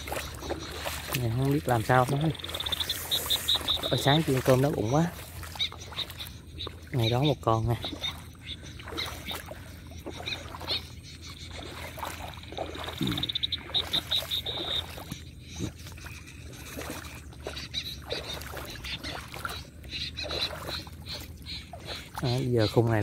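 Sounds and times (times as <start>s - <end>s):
high chirping bird calls: 0.0s - 23.0s.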